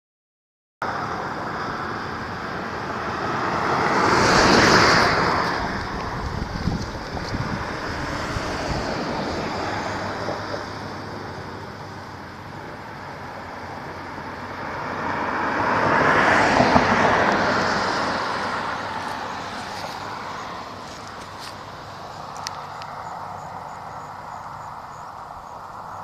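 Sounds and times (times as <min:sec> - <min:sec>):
outdoor background noise: 0:00.8 - 0:26.0
vehicle passing by: 0:00.9 - 0:26.0.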